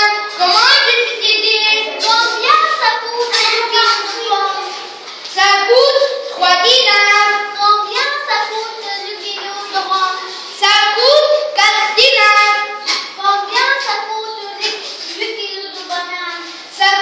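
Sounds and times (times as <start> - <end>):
child singing unaccompanied: 0.0 - 17.0.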